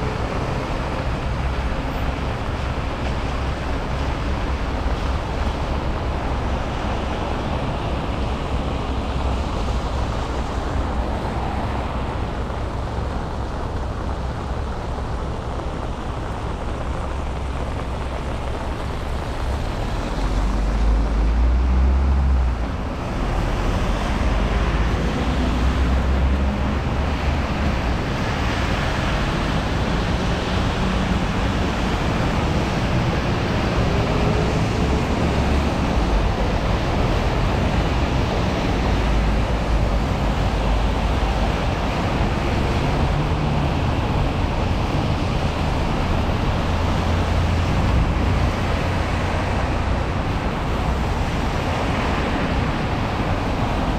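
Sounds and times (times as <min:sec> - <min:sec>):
rain on wet street: 0:00.0 - 0:53.9
traffic on wet street: 0:00.0 - 0:53.9.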